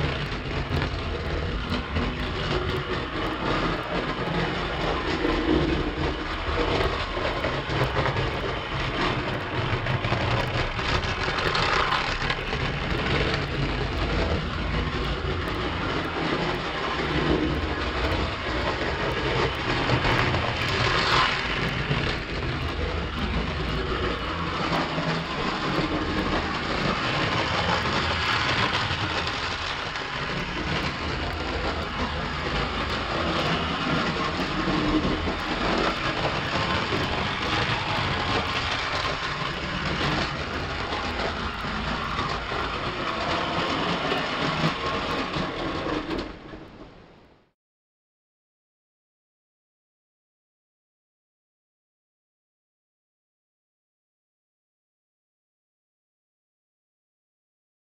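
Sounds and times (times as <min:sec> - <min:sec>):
clockwork toy train rattling: 0:00.0 - 0:47.0.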